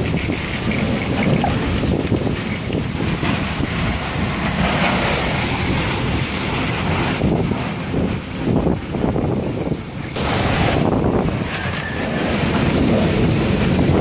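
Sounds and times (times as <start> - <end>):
strong gusty wind: 0.0 - 14.0.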